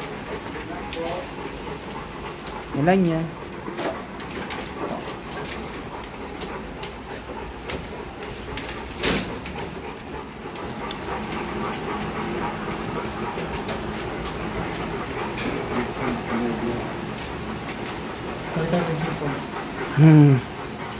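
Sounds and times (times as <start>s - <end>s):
scattered clicks and rattles: 0.0s - 20.0s.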